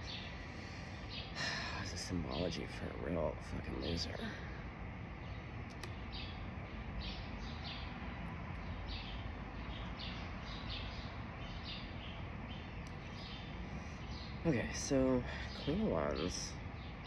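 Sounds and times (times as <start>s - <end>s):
low steady background noise: 0.0s - 17.0s
songbirds chirping: 0.0s - 17.0s.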